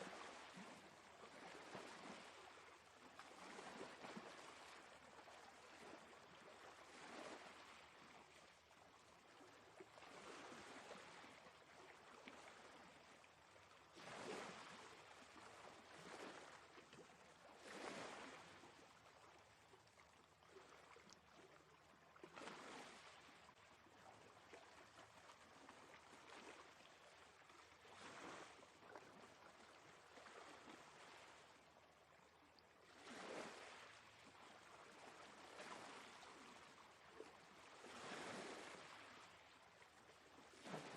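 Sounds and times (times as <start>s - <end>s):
faint sea waves washing in: 0.0s - 40.9s.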